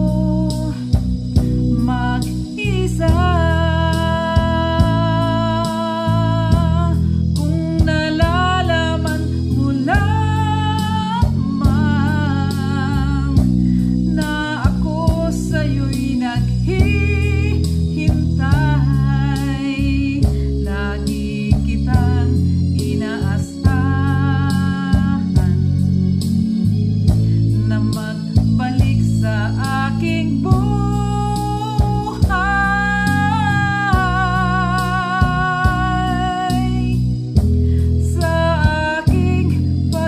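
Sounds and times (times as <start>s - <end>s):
woman singing with vibrato: 0.0s - 25.8s, 27.5s - 40.0s
backing track with guitar: 0.0s - 40.0s.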